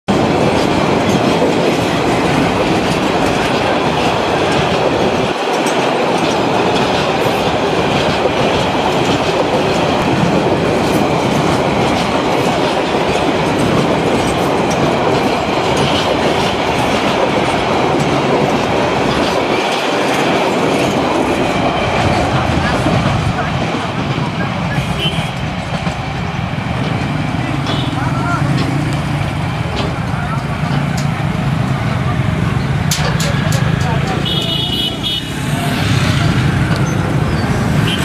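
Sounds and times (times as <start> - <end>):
freight train rumbling: 0.1 - 38.0
wheels clicking on rail joints: 0.1 - 38.0.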